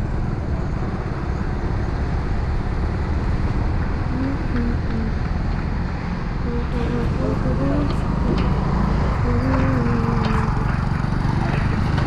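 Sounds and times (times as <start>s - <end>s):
car road and wind rumble: 0.0s - 12.0s.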